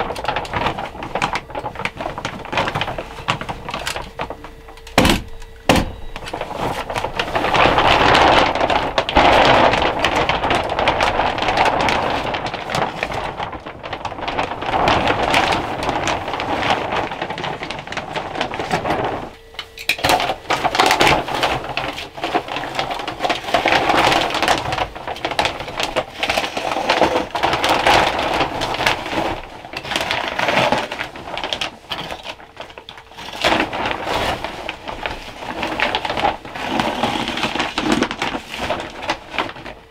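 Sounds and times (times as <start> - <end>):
plastic sheeting rustling: 0.0 - 39.9.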